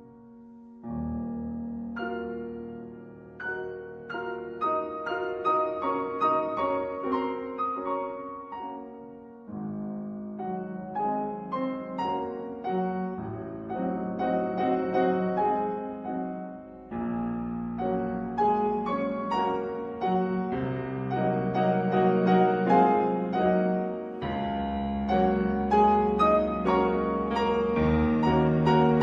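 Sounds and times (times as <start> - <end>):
gentle piano music: 0.0 - 29.0.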